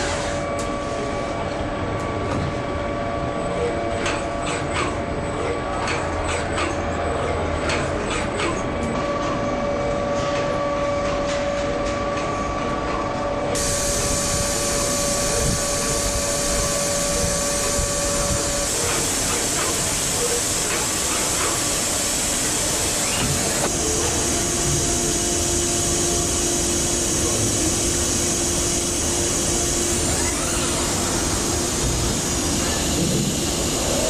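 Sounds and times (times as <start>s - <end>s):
machine humming and hissing: 0.0s - 34.0s.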